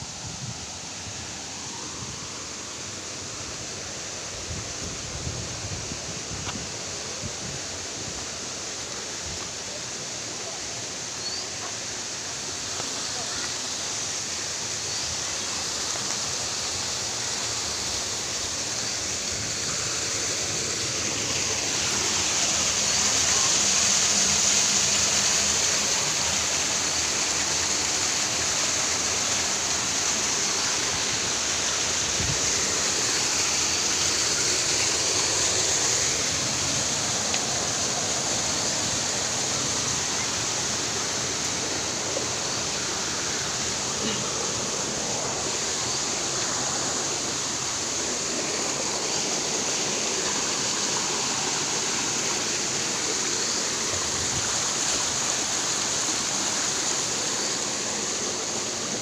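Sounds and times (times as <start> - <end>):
stream pouring over rocks: 0.0 - 59.0
waterfall rushing: 0.0 - 59.0.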